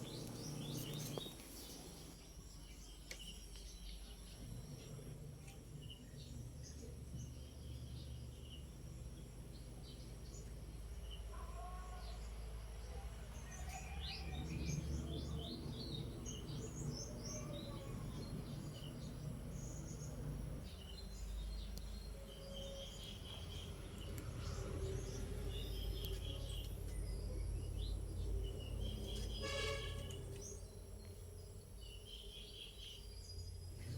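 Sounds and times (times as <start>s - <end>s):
birds chirping: 0.0s - 33.9s
steady low hum: 0.0s - 33.9s.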